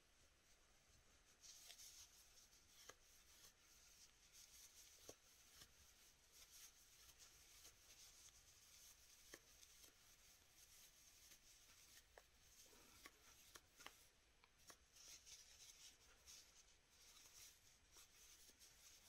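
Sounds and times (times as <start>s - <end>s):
yarn rustling with crochet hook: 0.4s - 19.0s.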